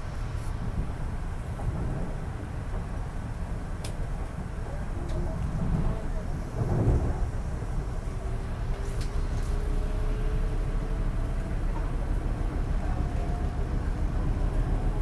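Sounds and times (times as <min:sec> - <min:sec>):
train rumble from inside car: 0:00.0 - 0:15.0.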